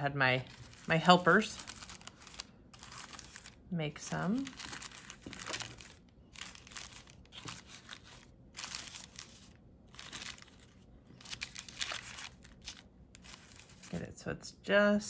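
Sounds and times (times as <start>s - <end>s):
paper crinkling: 0.4s - 14.0s.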